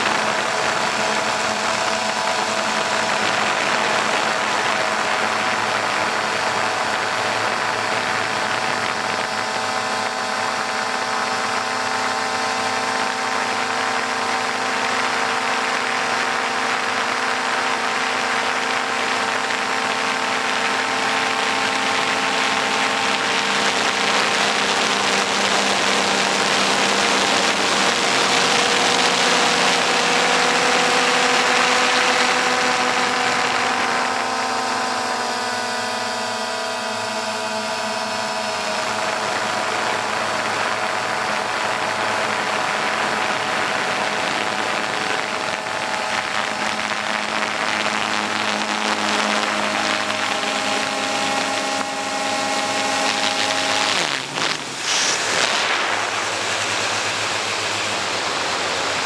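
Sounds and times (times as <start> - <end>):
drone motors whining: 0.0 - 59.0
rush of wind: 0.0 - 59.0.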